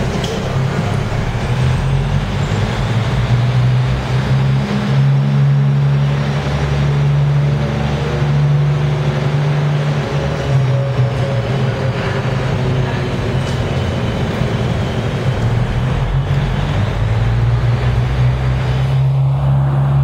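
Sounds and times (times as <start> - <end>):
train motor hum: 0.0 - 20.0
wheels rumbling on rail: 0.0 - 20.0.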